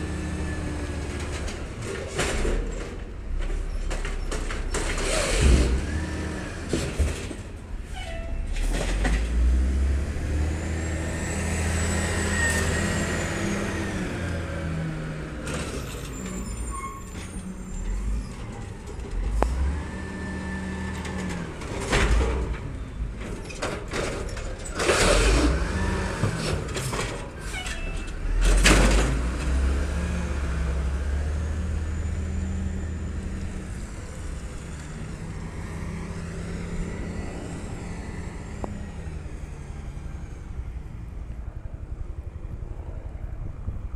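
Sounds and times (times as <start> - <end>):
diesel engine revving: 0.0 - 2.1, 4.7 - 7.5, 8.4 - 23.1, 24.7 - 40.6.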